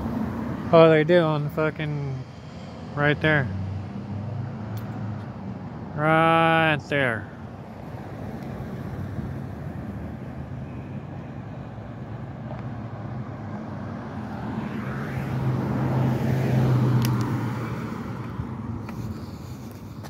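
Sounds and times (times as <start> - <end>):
traffic noise: 0.0 - 20.0.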